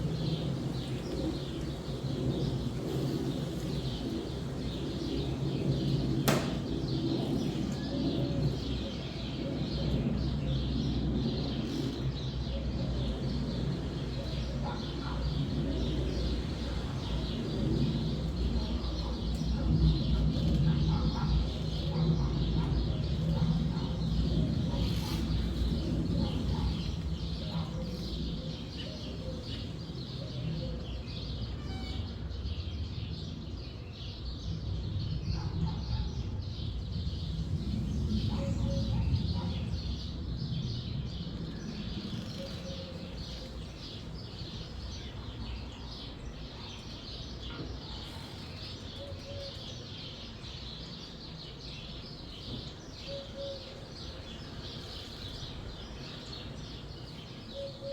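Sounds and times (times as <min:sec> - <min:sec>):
small birds chirping: 0:00.0 - 0:57.9
wind gusting through trees: 0:00.0 - 0:57.9.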